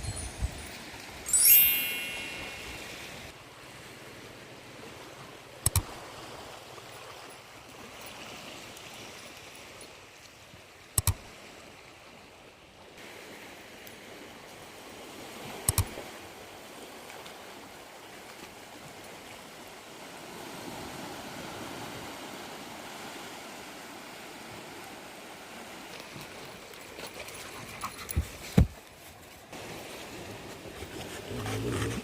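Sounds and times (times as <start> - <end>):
sea waves washing on beach: 0.0 - 32.0.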